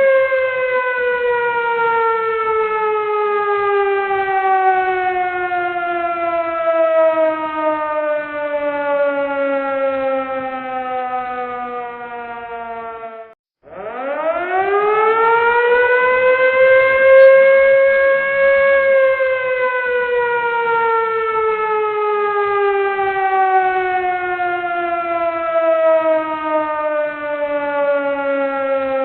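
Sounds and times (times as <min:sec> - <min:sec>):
emergency siren wailing: 0:00.0 - 0:29.0.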